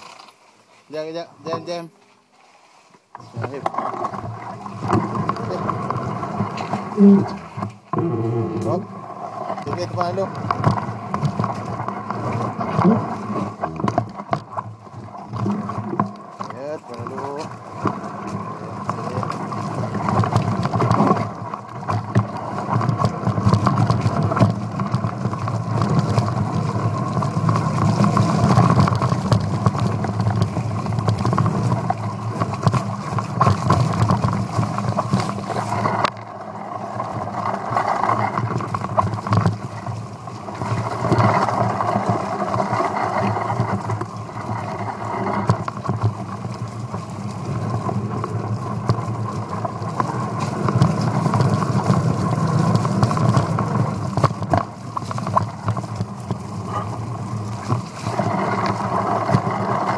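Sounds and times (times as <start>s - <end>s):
knocks and rattles of bike: 0.0s - 2.2s, 2.8s - 59.9s
bike rumbling on dirt trail: 0.0s - 59.9s.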